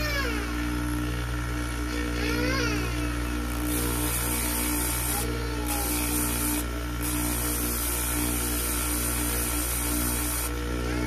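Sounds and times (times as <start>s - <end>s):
polishing motor hum: 0.0s - 11.0s.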